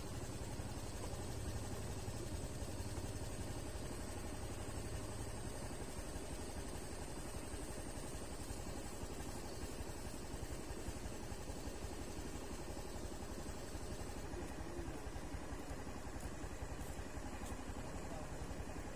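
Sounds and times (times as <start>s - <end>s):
small engine idling: 0.0s - 18.9s.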